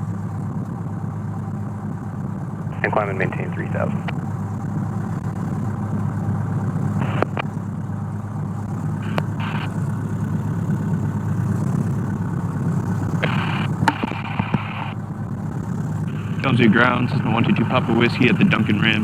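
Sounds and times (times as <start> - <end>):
piston engine idling: 0.0 - 19.0.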